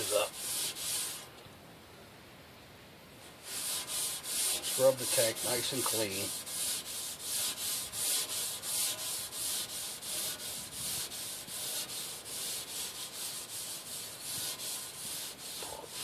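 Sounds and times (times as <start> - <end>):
abrasive pad scrubbing metal: 0.0 - 1.3, 3.4 - 16.0.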